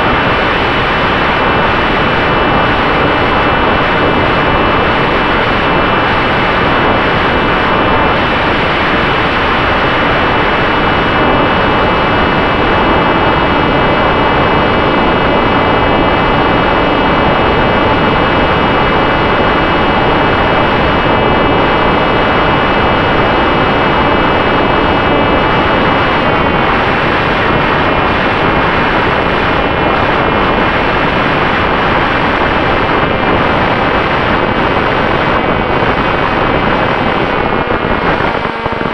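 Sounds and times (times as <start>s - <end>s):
wind noise: 0.0s - 38.9s.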